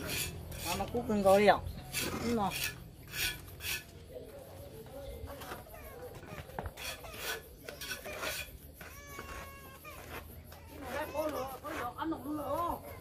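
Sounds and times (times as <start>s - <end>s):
trowel scraping mortar: 0.0s - 4.4s, 5.2s - 13.0s
faint voices: 0.4s - 13.0s.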